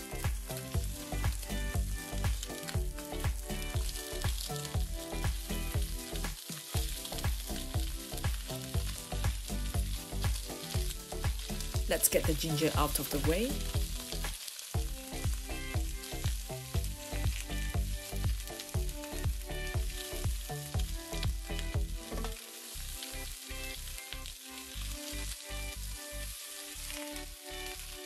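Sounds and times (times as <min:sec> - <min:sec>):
background music with beat: 0:00.0 - 0:28.0
chicken wings sizzling in oil: 0:00.0 - 0:28.0.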